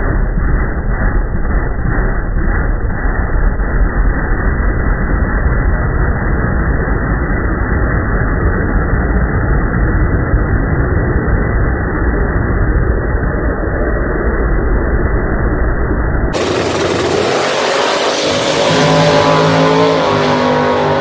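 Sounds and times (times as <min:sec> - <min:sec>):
engine idling rumble: 0:00.0 - 0:13.7, 0:14.4 - 0:18.6.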